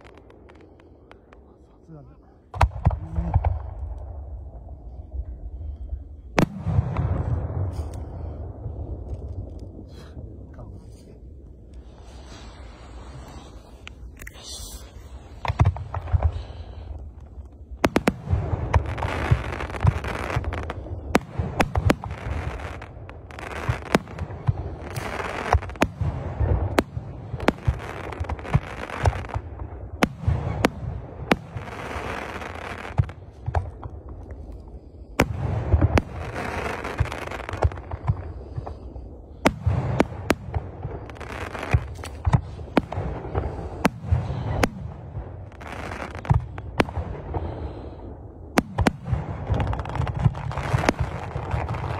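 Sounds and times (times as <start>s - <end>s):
fireworks bursting with sharp bangs: 0.0s - 1.6s, 2.4s - 51.9s
rushing noise of fireworks: 0.0s - 51.9s.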